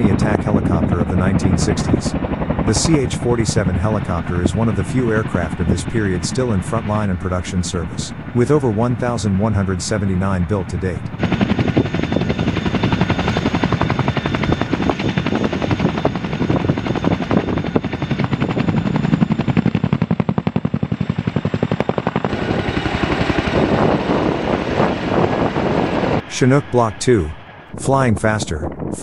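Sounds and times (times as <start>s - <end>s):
helicopter rotor chopping: 0.0s - 29.0s.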